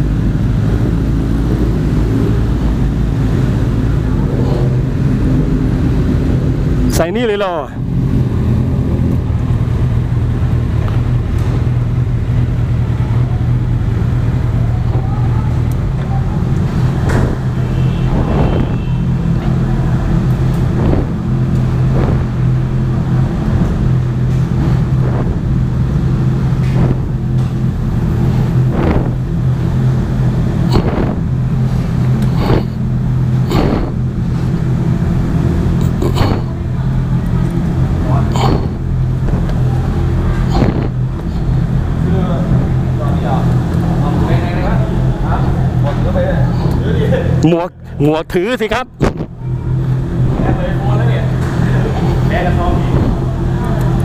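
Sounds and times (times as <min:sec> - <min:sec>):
motorcycle engine running: 0:00.0 - 0:07.0, 0:07.8 - 0:47.4.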